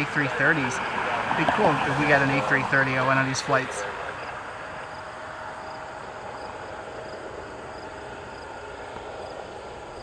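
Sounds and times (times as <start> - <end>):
crickets chirping: 0.0 - 10.0
outdoor background hum: 0.0 - 10.0.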